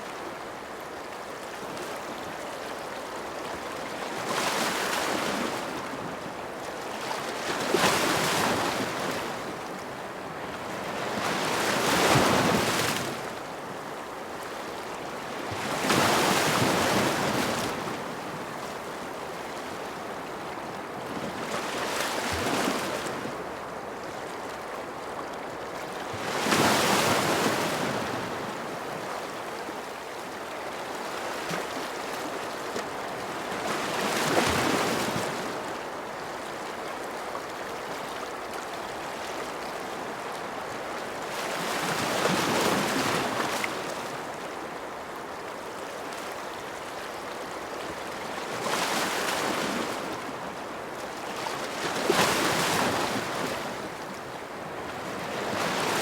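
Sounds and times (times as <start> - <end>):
ocean waves breaking on shore: 3.2 - 23.5, 25.9 - 56.0.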